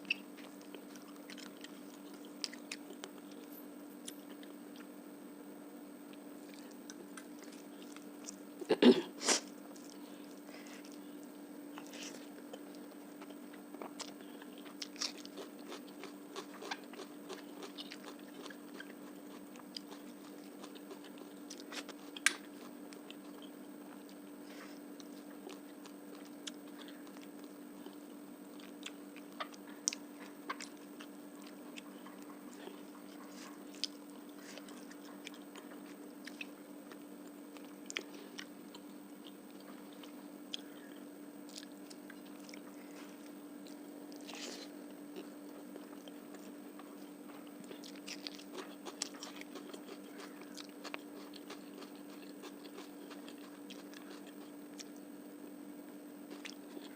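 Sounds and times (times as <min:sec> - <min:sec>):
person chewing food: 0:00.0 - 0:04.9, 0:06.1 - 0:08.4, 0:09.6 - 0:55.0, 0:56.3 - 0:56.9
steady low hum: 0:00.0 - 0:56.9.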